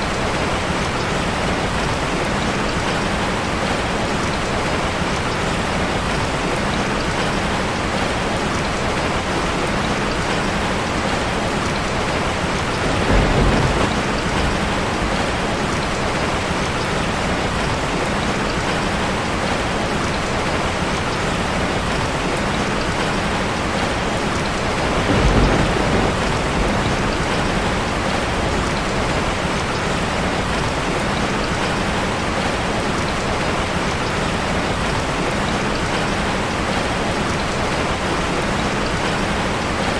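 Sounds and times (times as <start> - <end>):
rain drumming on metal roof: 0.0 - 39.9.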